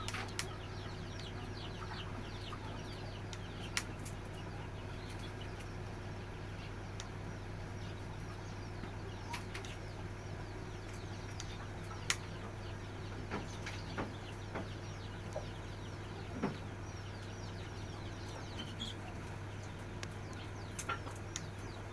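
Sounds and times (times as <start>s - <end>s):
chicks peeping: 0.0s - 21.9s
steady low hum: 0.0s - 21.9s.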